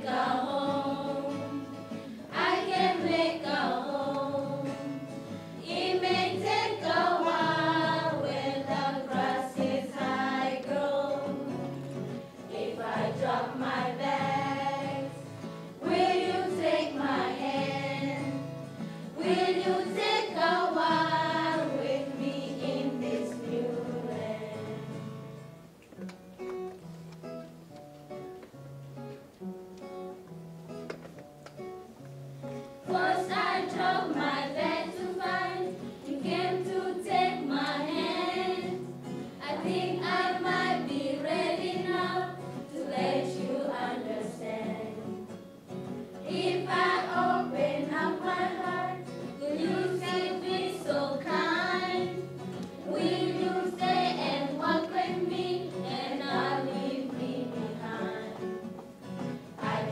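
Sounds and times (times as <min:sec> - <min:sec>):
young voices singing together: 0:00.0 - 0:25.2, 0:32.8 - 0:45.4, 0:46.1 - 0:59.9.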